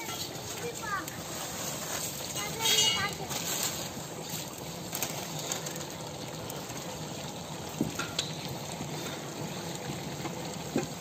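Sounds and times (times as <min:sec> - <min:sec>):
gravy bubbling in a pot: 0:00.0 - 0:11.0.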